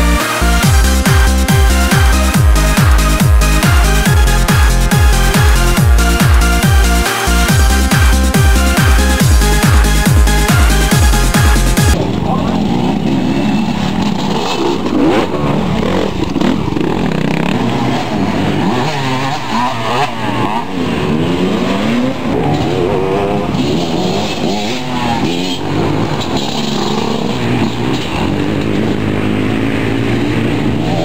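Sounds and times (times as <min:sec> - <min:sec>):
motocross bike engines revving: 0:00.0 - 0:31.0.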